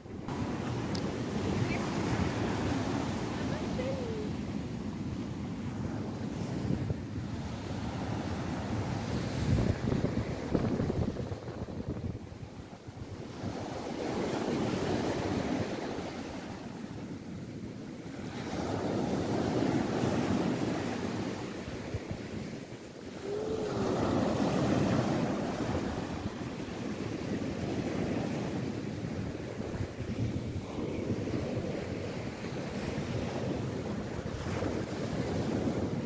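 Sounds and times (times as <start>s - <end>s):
ocean waves washing up a beach: 0.0s - 36.0s.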